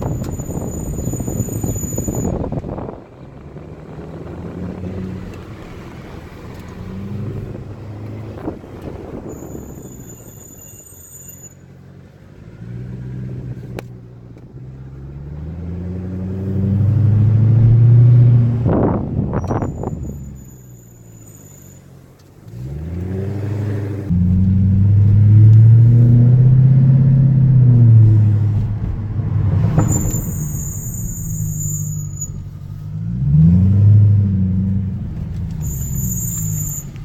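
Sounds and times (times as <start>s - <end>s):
car engine accelerating: 0.0s - 10.4s, 11.6s - 20.4s, 21.4s - 37.0s
brake squeal: 0.0s - 37.0s.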